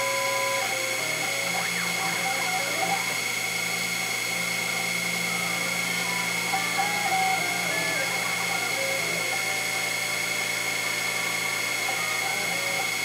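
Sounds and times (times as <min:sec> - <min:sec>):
milling machine whine: 0:00.0 - 0:13.0
stepper motor pitched tones: 0:00.0 - 0:13.0.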